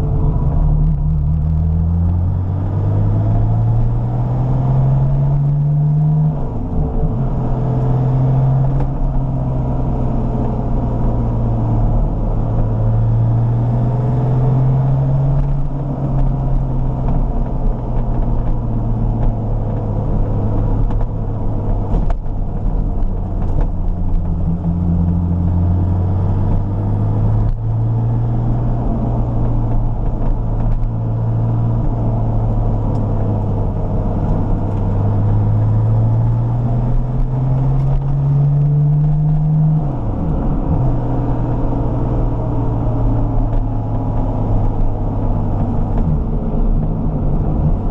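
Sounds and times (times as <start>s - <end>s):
car engine on the road: 0.0s - 47.9s.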